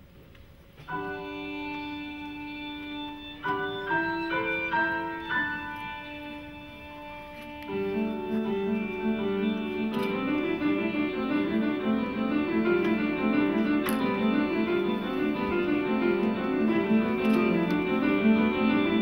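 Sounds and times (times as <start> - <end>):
classical keyboard music: 0.4 - 19.0.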